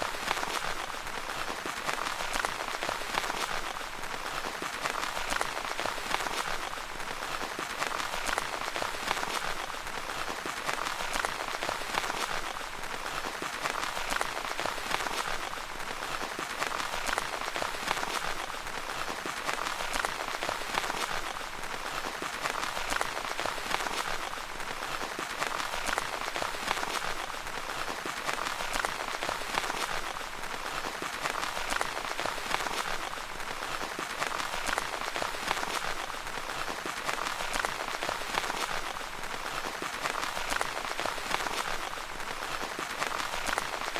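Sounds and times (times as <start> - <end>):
rain pattering on tent fabric: 0.0 - 43.9.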